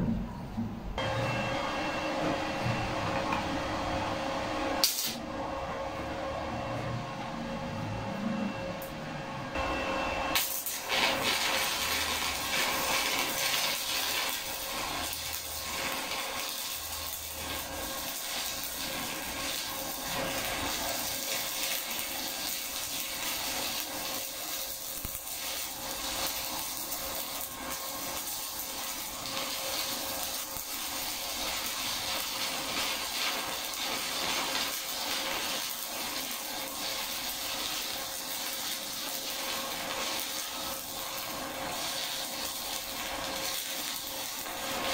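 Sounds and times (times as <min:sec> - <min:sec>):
welding arc crackling and sizzling: 0:01.0 - 0:08.0, 0:08.7 - 0:44.9.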